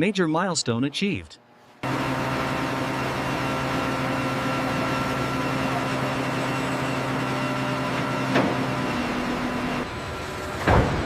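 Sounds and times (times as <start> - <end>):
workshop machinery hum: 1.4 - 11.0.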